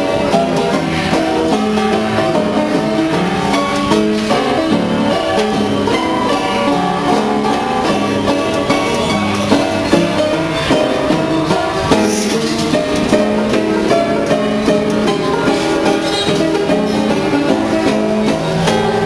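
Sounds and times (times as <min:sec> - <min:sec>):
player piano notes: 0:00.0 - 0:19.0.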